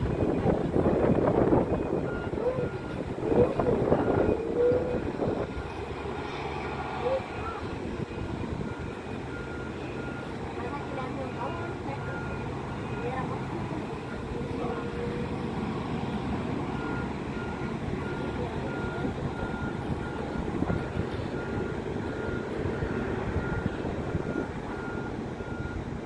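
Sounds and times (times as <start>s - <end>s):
reversing alarm beeps: 0.0s - 26.0s
steady rumbling background noise: 0.0s - 26.0s.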